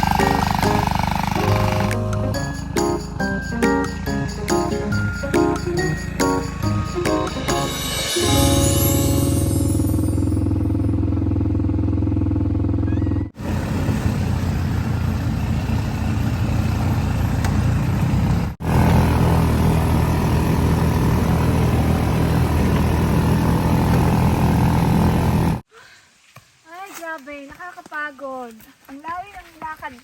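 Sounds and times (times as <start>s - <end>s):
vehicle engine running: 0.0s - 25.6s.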